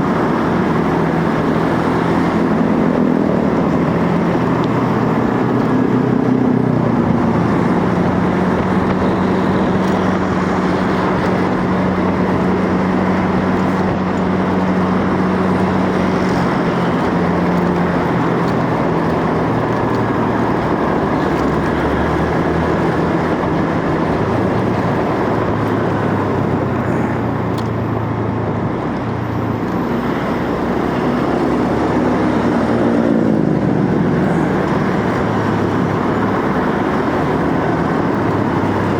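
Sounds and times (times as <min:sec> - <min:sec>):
air rush and road noise: 0:00.0 - 0:38.9
motorcycle engine hum: 0:00.0 - 0:38.9.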